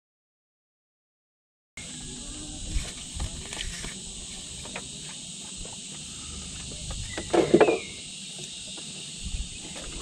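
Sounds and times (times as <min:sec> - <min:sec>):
insects buzzing: 0:01.8 - 0:10.0.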